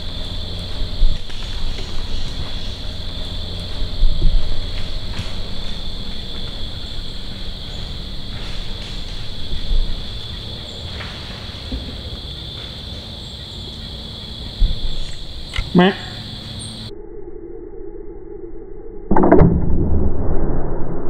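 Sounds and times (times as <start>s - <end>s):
insects trilling: 0.0s - 17.6s.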